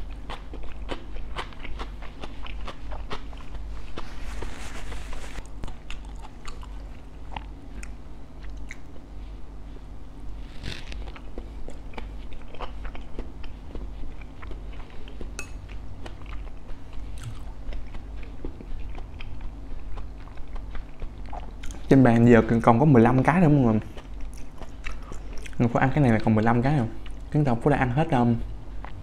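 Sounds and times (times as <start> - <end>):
chewing and crunching: 0.0 - 27.4, 28.7 - 29.0
steady low hum: 0.0 - 29.0.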